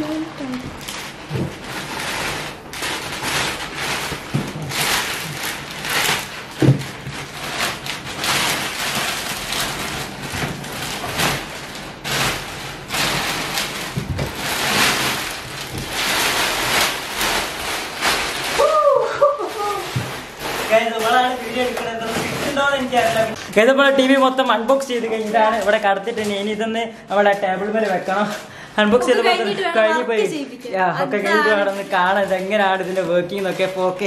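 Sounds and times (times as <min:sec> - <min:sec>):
plastic wrap rustling: 0:00.0 - 0:34.0.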